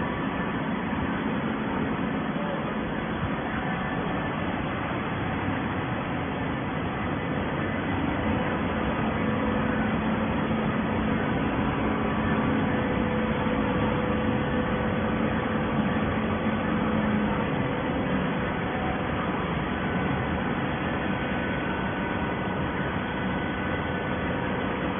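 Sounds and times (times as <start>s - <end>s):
baler mechanical noise: 0.0s - 24.9s
low hum: 0.0s - 24.9s.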